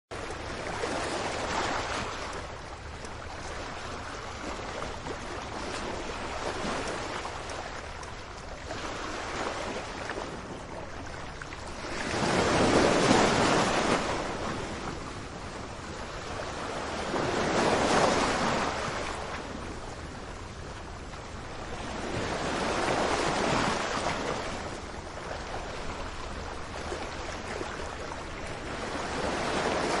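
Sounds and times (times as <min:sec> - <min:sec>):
sea waves breaking on shore: 0:00.1 - 0:30.0.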